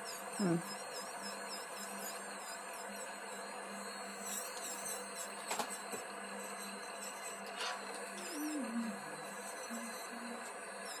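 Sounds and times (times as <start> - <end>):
electric nail drill whirring: 0.0 - 11.0.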